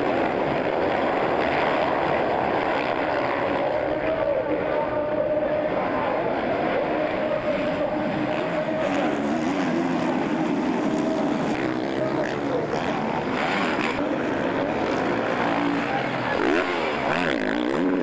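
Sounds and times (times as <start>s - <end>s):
motocross bike engines racing: 0.0s - 18.0s.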